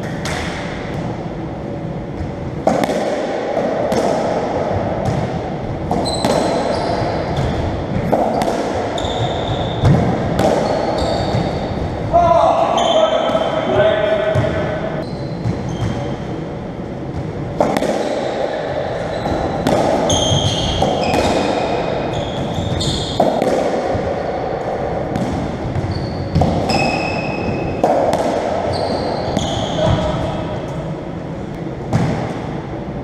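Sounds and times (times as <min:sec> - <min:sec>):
ball smacking rackets and walls: 0:00.0 - 0:01.2, 0:02.1 - 0:14.8, 0:15.4 - 0:16.3, 0:17.1 - 0:30.9, 0:31.8 - 0:32.6.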